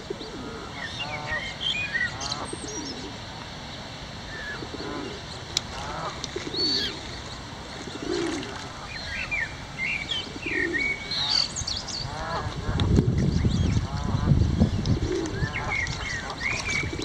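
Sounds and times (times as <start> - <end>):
low cooing bird calls: 0.0 - 3.3, 4.3 - 17.0
birds peeping and chirping: 0.0 - 17.0
low rumbling noise: 0.0 - 17.0.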